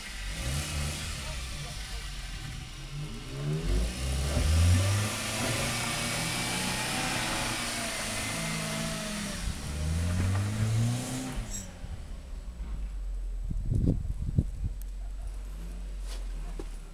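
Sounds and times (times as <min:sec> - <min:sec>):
car engine accelerating: 0:00.0 - 0:16.9.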